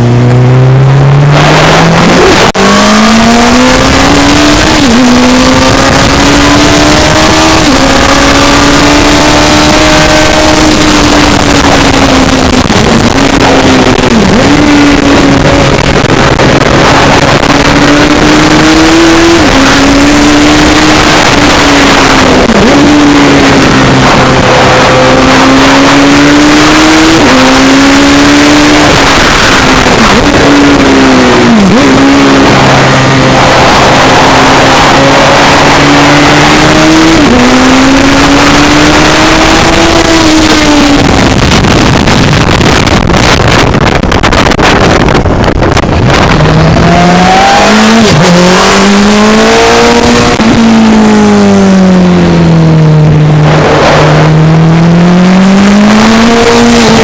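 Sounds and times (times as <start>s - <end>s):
racing engine at speed: 0.0s - 57.0s
wind noise on microphone: 0.0s - 57.0s.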